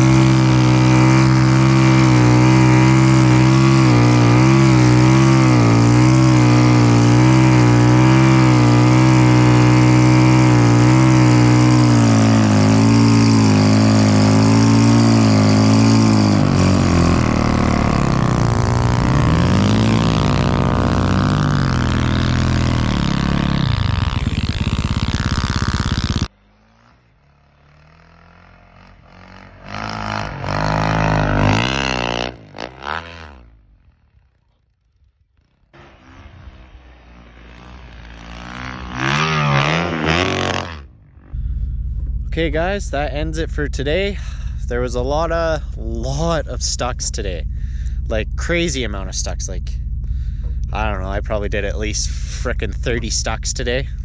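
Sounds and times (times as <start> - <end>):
vehicle engine revving: 0.0 - 54.0.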